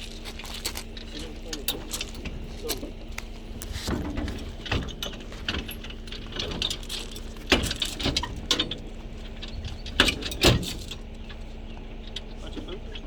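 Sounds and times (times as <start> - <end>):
irregular knocks and clatter: 0.0 - 13.0.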